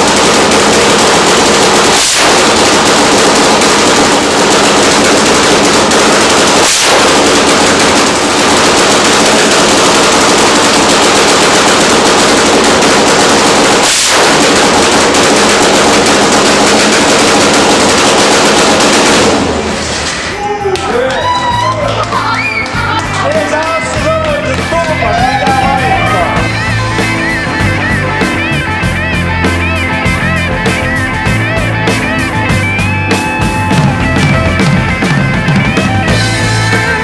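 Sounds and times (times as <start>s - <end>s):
loud motorcycle engine running: 0.0s - 20.2s, 22.8s - 37.0s.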